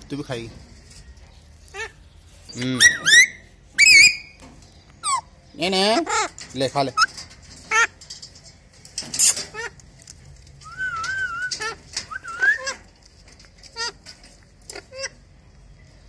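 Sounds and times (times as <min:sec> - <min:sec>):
parakeets squawking and chattering: 0:01.4 - 0:16.0.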